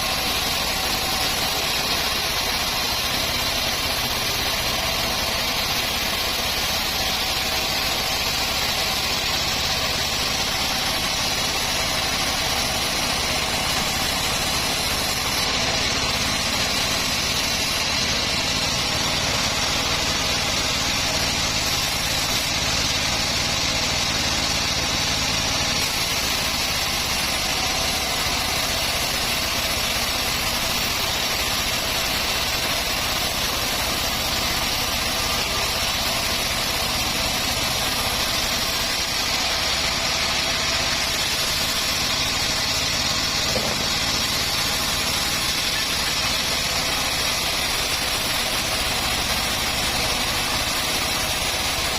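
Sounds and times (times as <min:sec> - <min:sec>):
band sawmill droning and hissing: 0:00.0 - 0:51.9.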